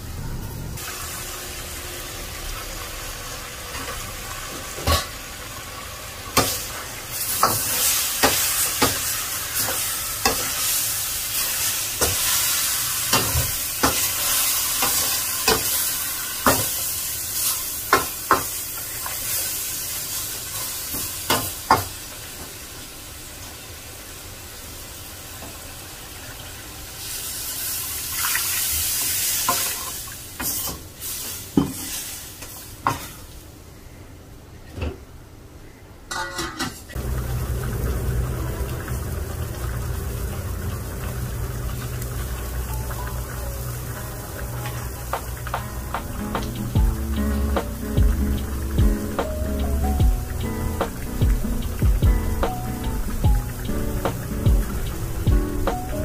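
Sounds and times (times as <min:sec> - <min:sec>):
meat sizzling in a wok: 0:00.4 - 0:33.4, 0:36.9 - 0:56.0.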